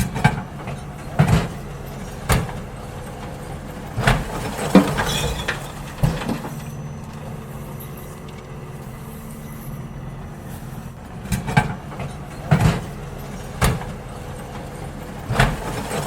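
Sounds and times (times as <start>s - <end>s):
garbage truck engine running: 0.0s - 16.0s.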